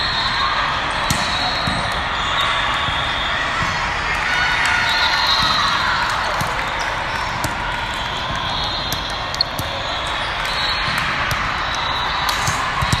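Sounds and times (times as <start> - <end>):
volleyballs smacking and bouncing: 0.9 - 3.8, 5.2 - 13.0.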